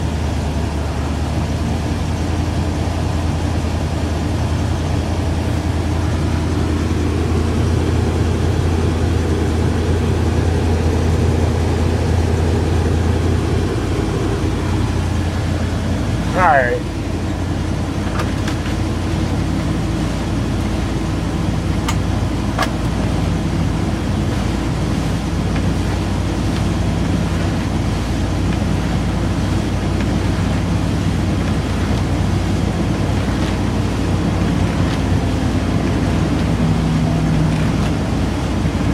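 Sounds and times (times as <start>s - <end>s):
truck engine fast idle: 0.0s - 38.9s.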